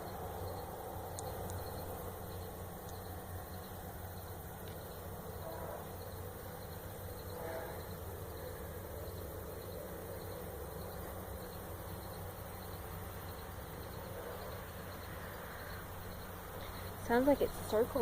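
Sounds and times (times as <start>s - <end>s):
crickets chirping: 0.0s - 18.0s
faint low drone: 0.0s - 18.0s.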